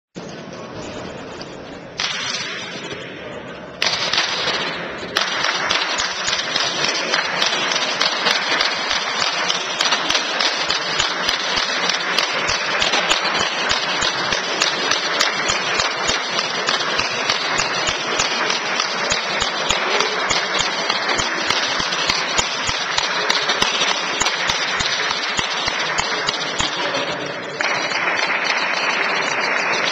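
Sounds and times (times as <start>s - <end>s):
rapid clapping: 3.8s - 29.9s.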